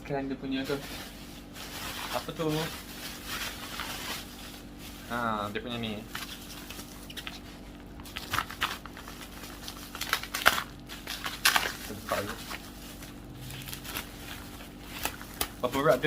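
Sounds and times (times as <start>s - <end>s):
faint steady hum: 0.0s - 16.0s
plastic packaging crinkling: 0.6s - 16.0s.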